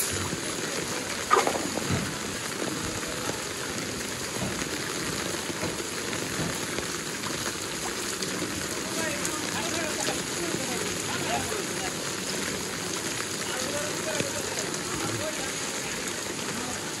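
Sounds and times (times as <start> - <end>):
heavy rain on wet street: 0.0 - 17.0.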